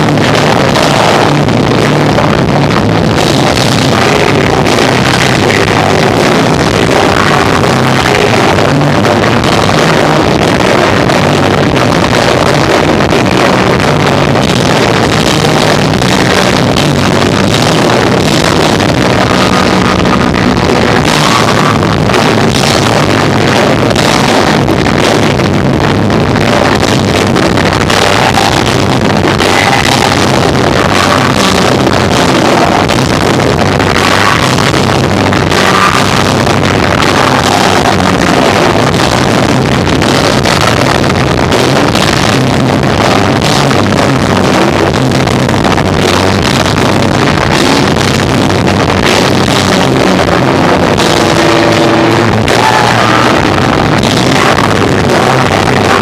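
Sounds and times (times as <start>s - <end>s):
distorted live rock band: 0.0s - 56.0s.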